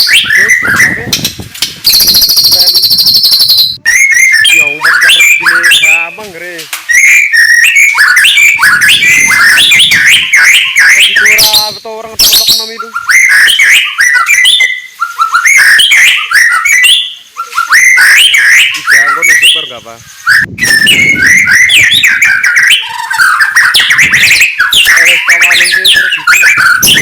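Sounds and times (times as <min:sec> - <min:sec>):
bird singing whistled phrases: 0:00.0 - 0:27.0.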